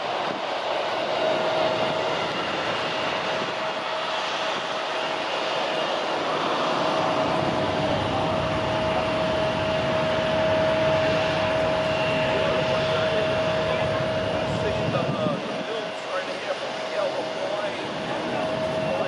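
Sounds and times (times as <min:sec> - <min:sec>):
airliner engines whining: 0:00.0 - 0:19.0.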